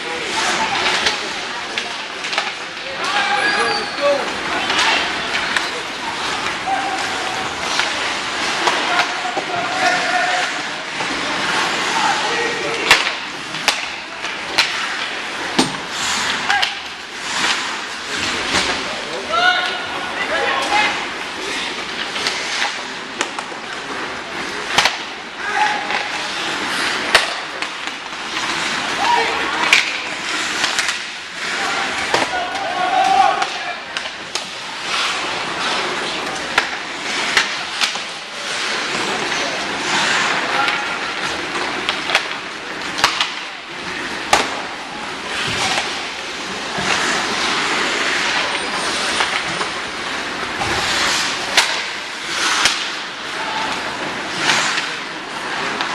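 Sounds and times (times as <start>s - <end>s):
skate blades scraping ice: 0.0s - 55.9s
stick and puck impacts: 0.0s - 55.9s.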